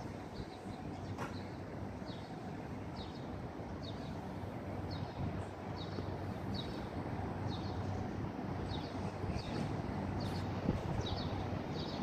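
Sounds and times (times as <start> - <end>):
low rumble of city traffic: 0.0 - 12.0
bird chirping: 0.2 - 4.2, 4.8 - 12.0.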